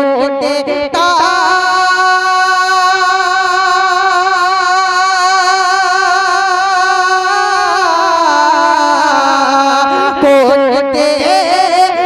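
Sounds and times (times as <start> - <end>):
man singing long note with vibrato: 0.0 - 12.0.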